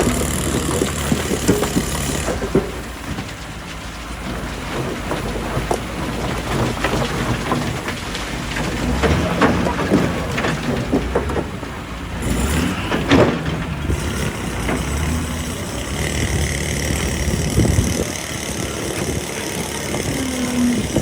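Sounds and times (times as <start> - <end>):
heavy machine engine running: 0.0 - 21.0
rock knocking and scraping: 0.0 - 21.0.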